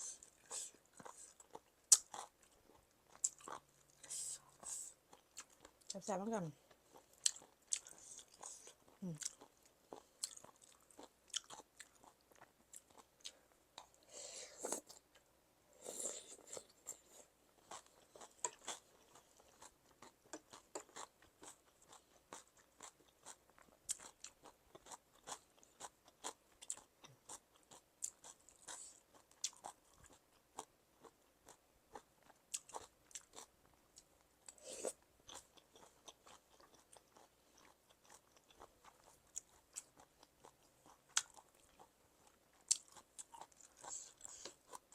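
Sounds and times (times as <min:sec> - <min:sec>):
person chewing crunchy food: 0:00.0 - 0:06.0, 0:06.6 - 0:44.9.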